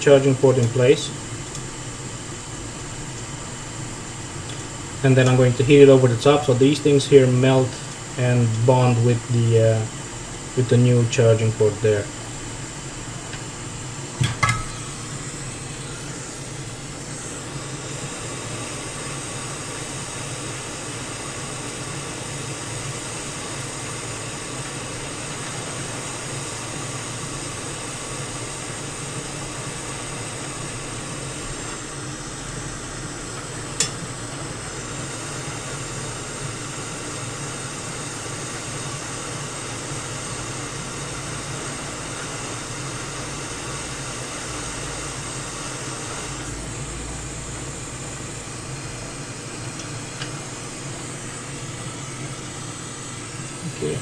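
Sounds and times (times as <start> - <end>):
hot air blower hiss: 0.0 - 54.0.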